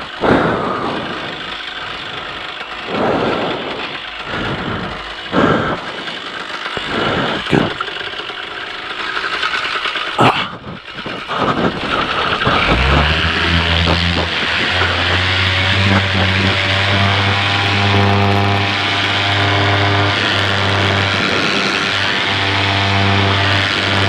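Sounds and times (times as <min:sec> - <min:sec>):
paramotor engine running: 0:00.0 - 0:24.0
steady rush of noise: 0:00.0 - 0:24.0.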